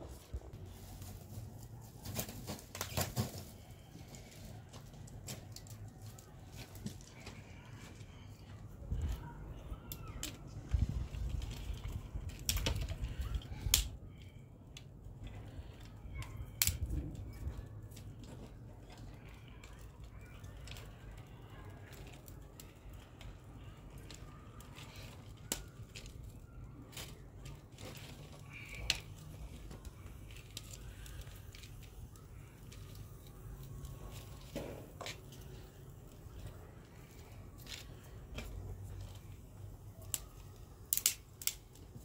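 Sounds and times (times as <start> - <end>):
dry twigs snapping: 2.0 - 8.0, 9.9 - 14.9, 15.8 - 20.9, 21.8 - 42.0.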